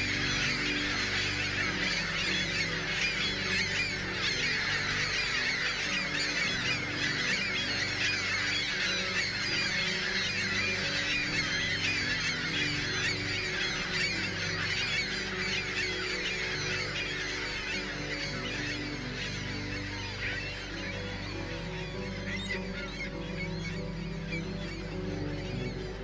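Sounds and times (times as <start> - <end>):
flock of gulls calling: 0.0 - 26.0.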